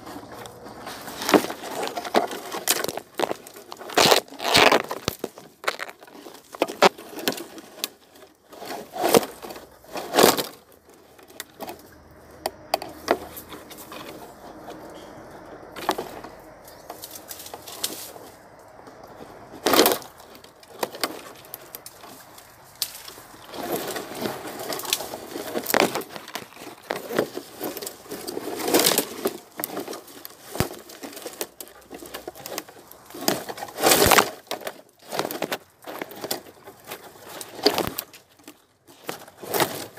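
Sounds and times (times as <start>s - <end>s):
dry twigs and leaves crunching: 0.0s - 39.9s.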